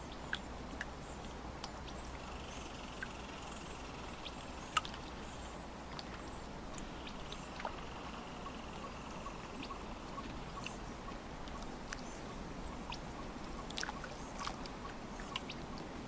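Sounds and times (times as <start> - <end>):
water lapping at shore: 0.0 - 16.0.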